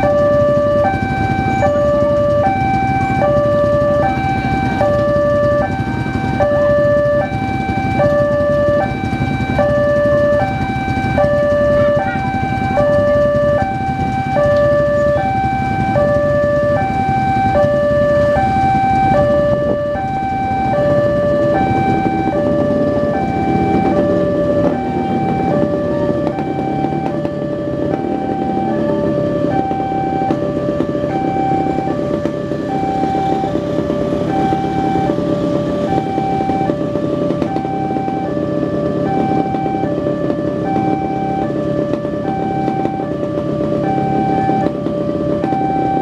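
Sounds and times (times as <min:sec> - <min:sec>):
low engine rumble: 0:00.0 - 0:46.0
two-tone crossing alarm: 0:00.0 - 0:46.0.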